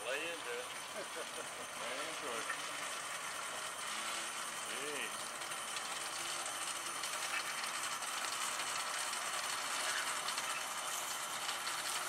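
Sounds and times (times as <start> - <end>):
winch grinding: 0.0 - 12.0.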